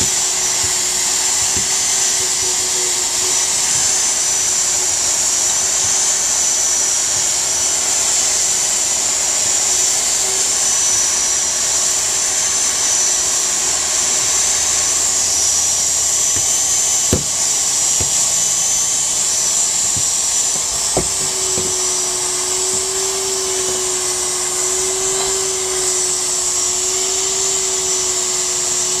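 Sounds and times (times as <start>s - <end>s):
hot air welder blower hissing: 0.0s - 29.0s.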